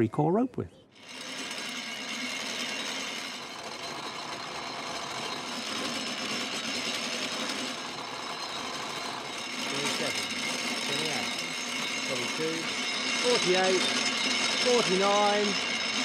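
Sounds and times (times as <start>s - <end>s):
hand-cranked wheel turning: 0.9s - 16.0s.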